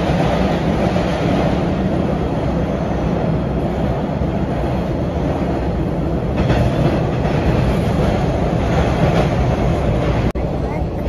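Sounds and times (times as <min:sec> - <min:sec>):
subway wheels rumbling on rails: 0:00.0 - 0:11.0.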